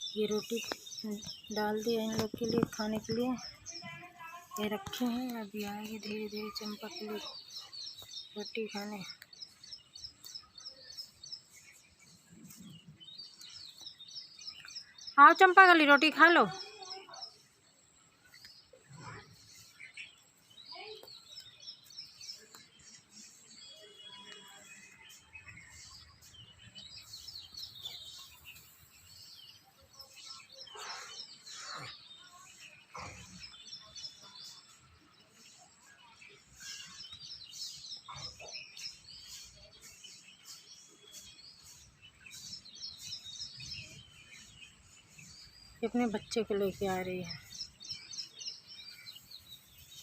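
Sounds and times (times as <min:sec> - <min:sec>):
bird chirping: 0:00.0 - 0:50.0
faint outdoor background noise: 0:00.0 - 0:50.0.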